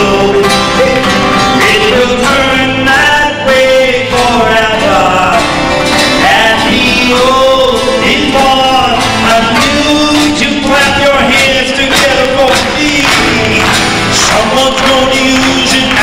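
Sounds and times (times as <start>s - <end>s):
acoustic guitar strumming: 0.0s - 16.0s
man singing: 0.0s - 16.0s.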